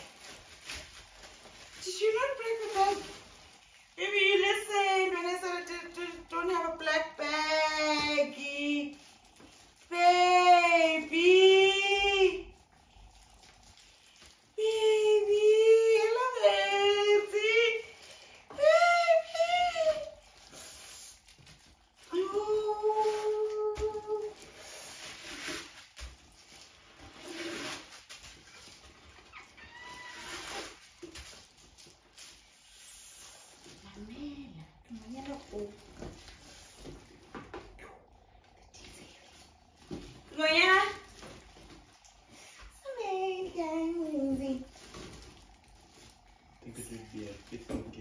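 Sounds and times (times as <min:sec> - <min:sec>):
wrapping rustling: 0:00.0 - 0:48.0.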